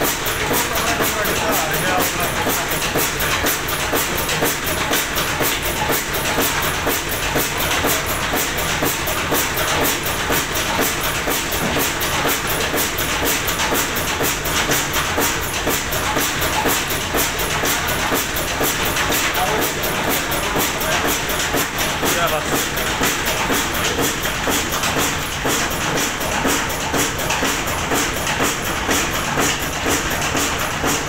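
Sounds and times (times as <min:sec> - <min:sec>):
stationary diesel engine running: 0:00.0 - 0:31.0
valve gear clatter: 0:00.0 - 0:31.0.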